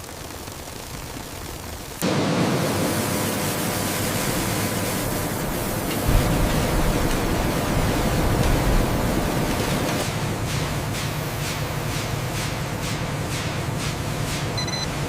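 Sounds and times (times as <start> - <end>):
mill machinery rushing: 2.0 - 15.0.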